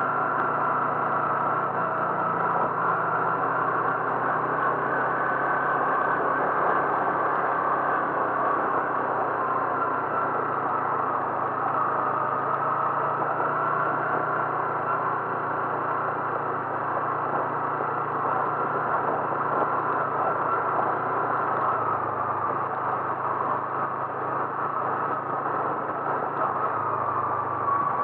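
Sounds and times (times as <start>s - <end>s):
road noise: 0.0s - 28.0s
vehicle engine drone: 0.0s - 28.0s.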